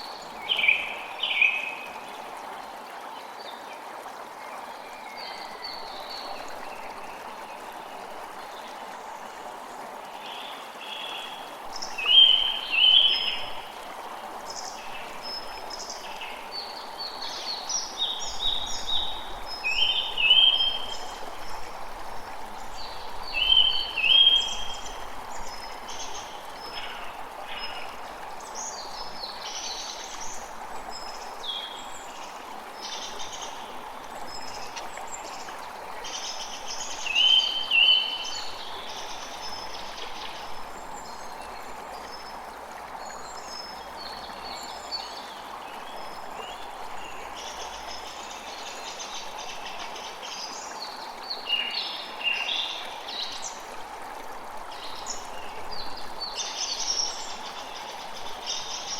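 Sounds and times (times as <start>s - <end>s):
running water rushing: 0.0s - 58.9s.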